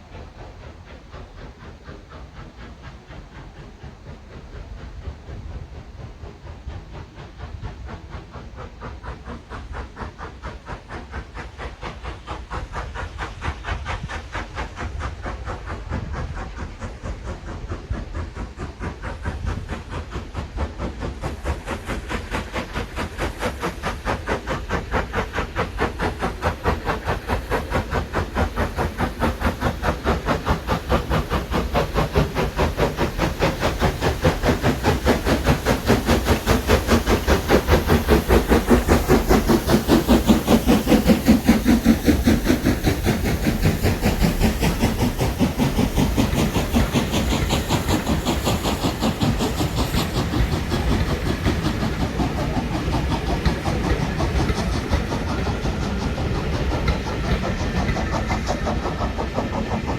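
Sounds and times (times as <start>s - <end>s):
steam hissing: 0.0s - 59.9s
steam locomotive exhaust beats: 0.0s - 59.9s.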